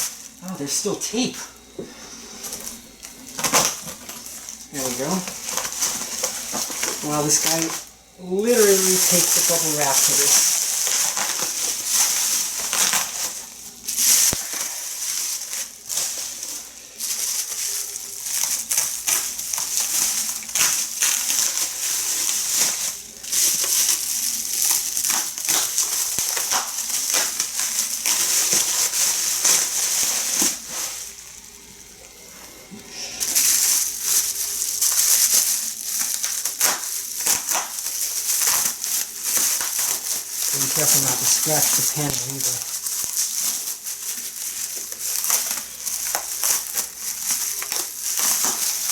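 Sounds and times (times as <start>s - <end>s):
bubble wrap crinkling: 0.0s - 48.9s.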